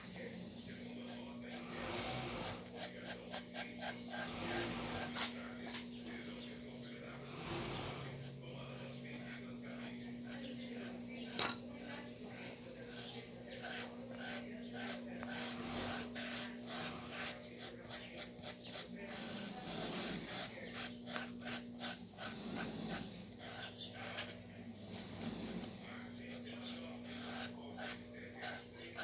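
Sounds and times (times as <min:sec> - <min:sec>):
steady low hum: 0:00.0 - 0:29.0
paintbrush scratching styrofoam: 0:01.0 - 0:05.2, 0:07.1 - 0:29.0.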